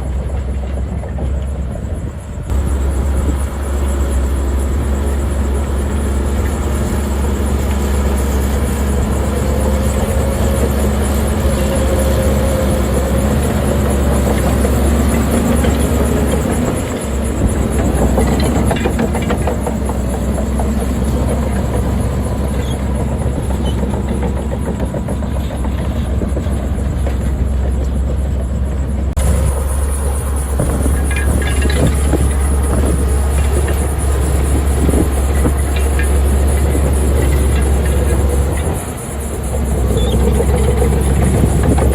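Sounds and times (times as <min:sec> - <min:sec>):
heavy diesel machinery drone: 0:00.0 - 0:41.9
light metallic clatter: 0:07.2 - 0:41.9.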